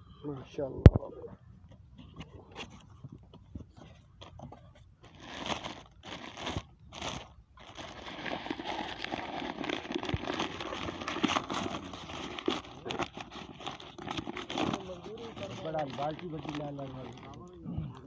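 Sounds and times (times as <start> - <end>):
packaging crinkling and rustling: 2.2 - 18.0.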